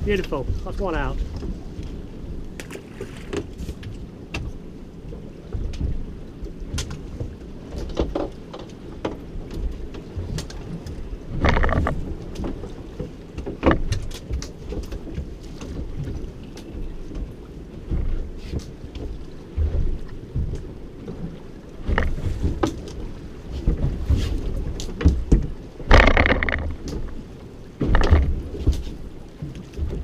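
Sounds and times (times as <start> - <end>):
water lapping against boat hull: 0.0 - 30.0
wind buffeting microphone: 0.0 - 30.0.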